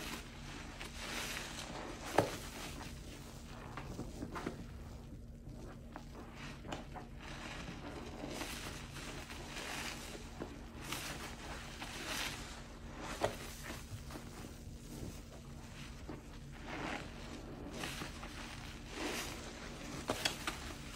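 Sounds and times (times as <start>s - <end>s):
sponge squelching in soapy water: 0.0s - 20.9s.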